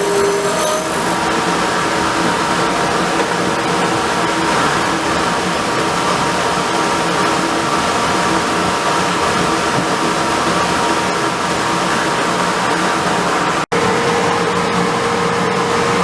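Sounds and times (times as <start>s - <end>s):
wood lathe whirring: 0.0s - 16.0s.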